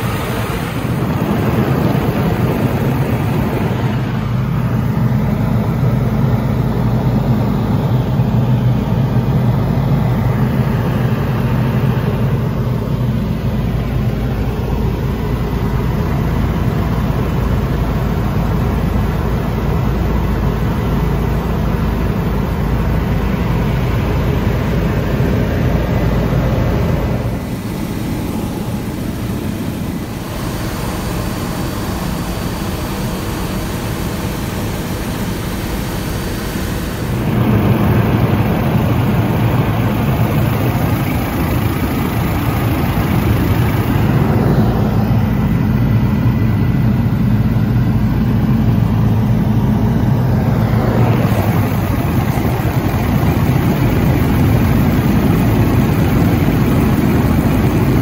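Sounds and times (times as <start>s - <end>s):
helicopter rotor drone: 0.0s - 58.0s.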